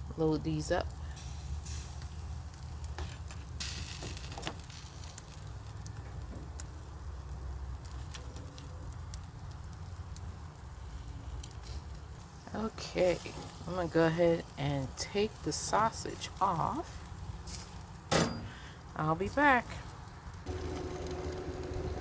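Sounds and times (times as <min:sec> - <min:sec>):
food sizzling on a grill: 0:00.1 - 0:22.0.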